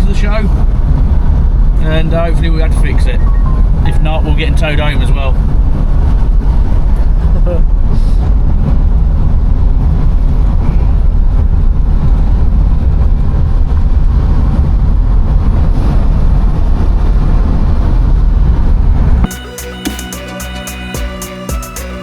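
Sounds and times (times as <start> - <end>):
road and wind rumble: 0.0 - 19.3.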